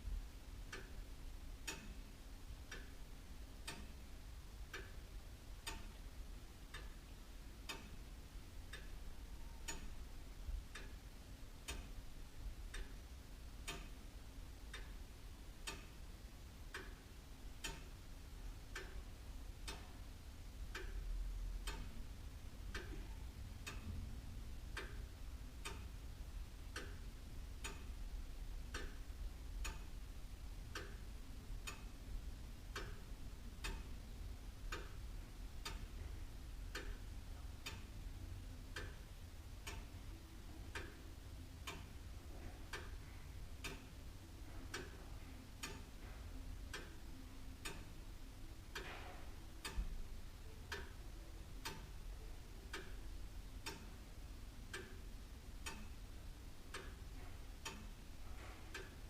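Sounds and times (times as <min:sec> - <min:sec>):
low steady hum: 0:00.0 - 0:59.0
clock ticking: 0:00.1 - 0:59.0.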